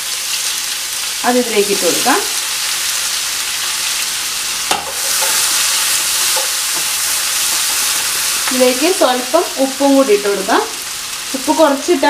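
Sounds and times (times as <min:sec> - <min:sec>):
onions sizzling in frying pan: 0:00.0 - 0:12.0.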